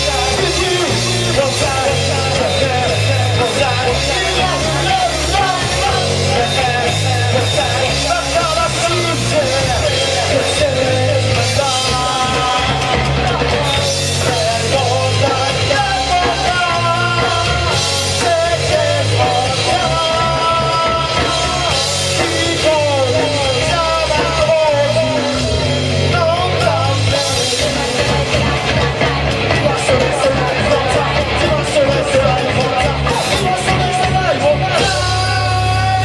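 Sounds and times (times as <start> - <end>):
lead singer singing: 0.0 - 36.0
rock band playing: 0.0 - 36.0.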